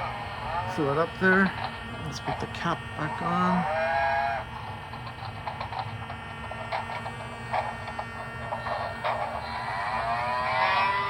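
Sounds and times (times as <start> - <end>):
model locomotive diesel engine sound: 0.0 - 11.0.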